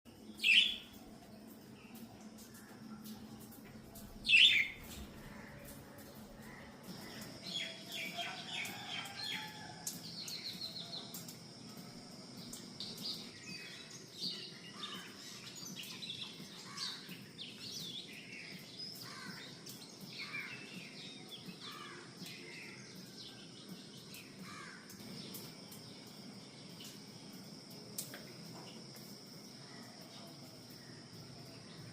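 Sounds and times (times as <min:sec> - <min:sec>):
songbirds chirping and calling: 0:00.1 - 0:31.9.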